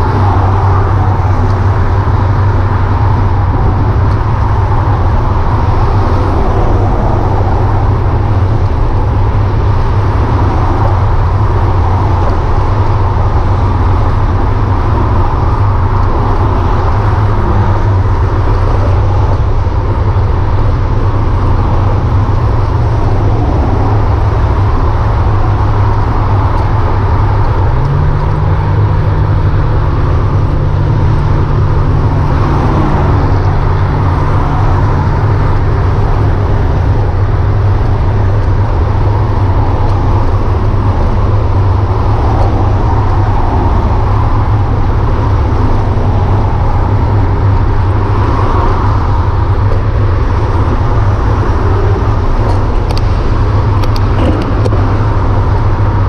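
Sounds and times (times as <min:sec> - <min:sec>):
freeway traffic rushing: 0:00.0 - 0:56.0
low engine hum: 0:00.0 - 0:56.0.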